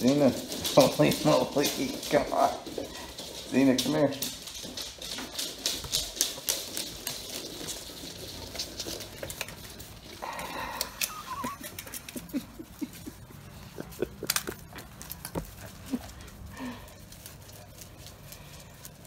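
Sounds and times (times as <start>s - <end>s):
puppy paws pattering on hard floor: 0.0s - 19.0s.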